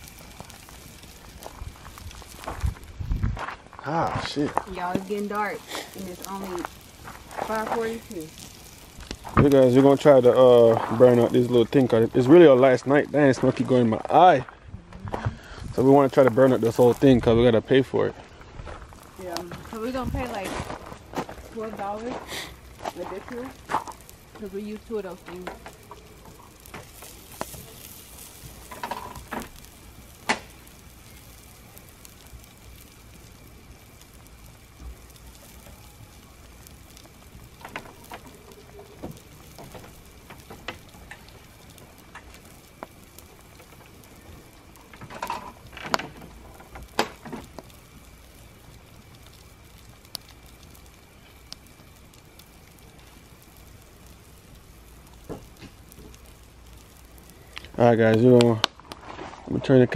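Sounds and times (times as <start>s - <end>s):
campfire crackling: 0.0s - 59.9s
sharp pops of burning wood: 0.0s - 59.9s.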